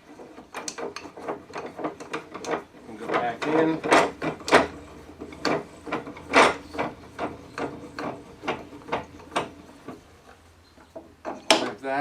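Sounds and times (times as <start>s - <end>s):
vise screw clicking: 0.1s - 10.0s.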